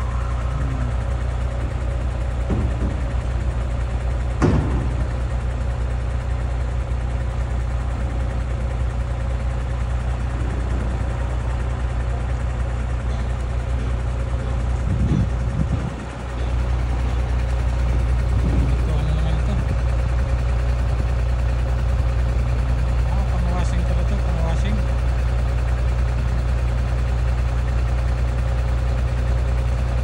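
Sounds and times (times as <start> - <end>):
heavy machinery engine running: 0.0 - 30.0.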